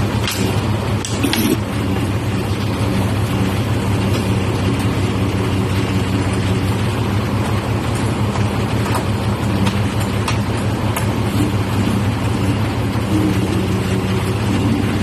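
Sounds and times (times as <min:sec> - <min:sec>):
truck engine running steadily: 0:00.0 - 0:15.0.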